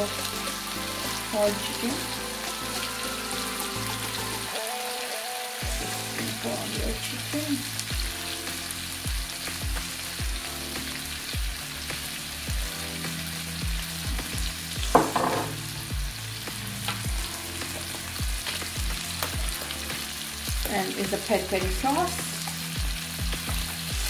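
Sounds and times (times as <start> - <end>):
chicken sizzling in a pan: 0.0 - 24.0
quiet background music with beat: 0.0 - 24.0.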